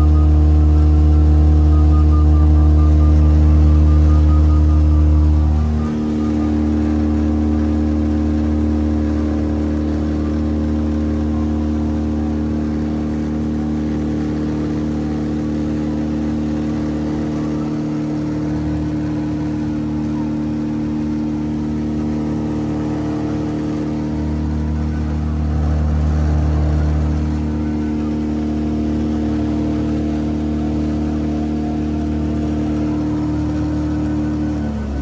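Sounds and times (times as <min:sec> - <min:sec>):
electric motor and propeller drone: 0:00.0 - 0:35.0.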